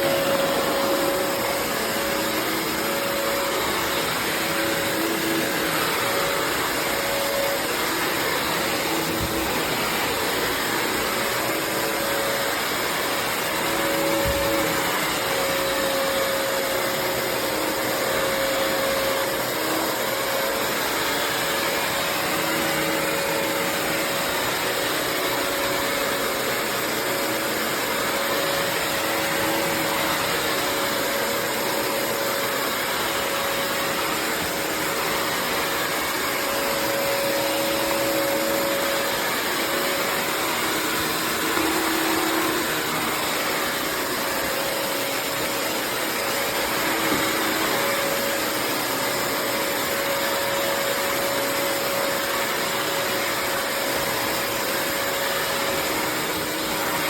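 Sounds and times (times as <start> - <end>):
wet-dry vacuum running: 0.0 - 57.0.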